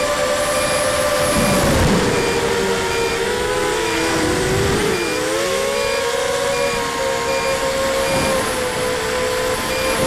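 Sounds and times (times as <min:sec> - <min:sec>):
drone motors whining: 0:00.0 - 0:10.0.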